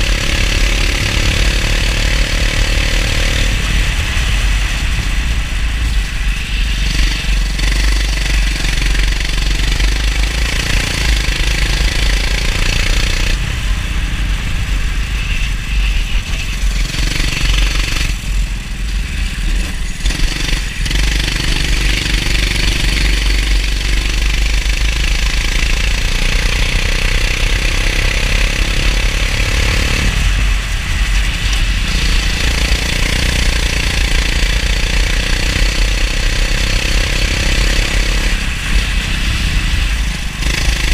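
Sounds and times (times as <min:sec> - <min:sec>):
heavy low rumble: 0:00.0 - 0:28.0, 0:28.7 - 0:36.4, 0:38.1 - 0:40.9
racing kart engine revving: 0:00.0 - 0:40.9.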